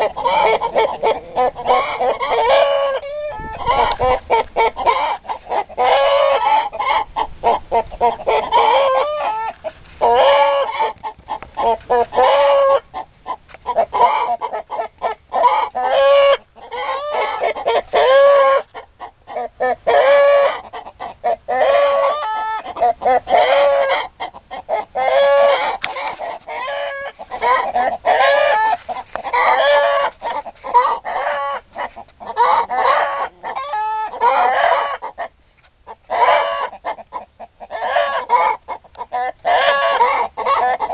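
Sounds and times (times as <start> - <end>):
chickens clucking and cackling: 0.0 - 40.9.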